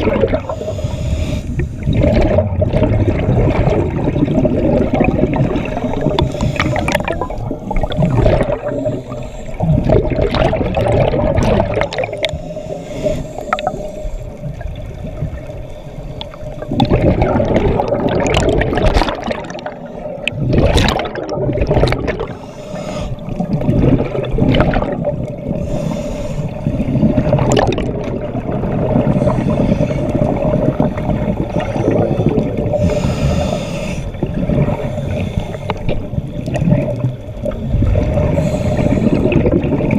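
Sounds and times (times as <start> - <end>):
steady hum: 0.0 - 39.8
scuba bubbles gurgling: 0.0 - 39.9
underwater rumble: 0.0 - 39.9.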